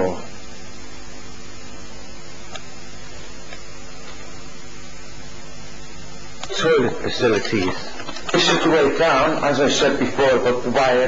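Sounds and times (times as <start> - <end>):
camcorder recording hiss: 0.0 - 11.0.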